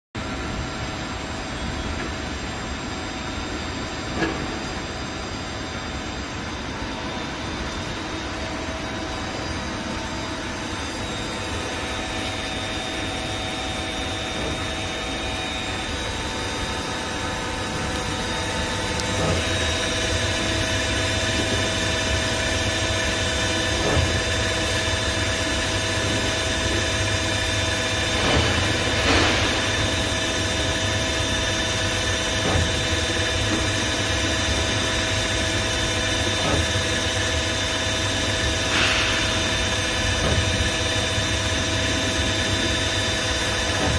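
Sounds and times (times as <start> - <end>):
steady whining tones: 0.2 - 43.9
lathe machine hum: 2.1 - 43.9.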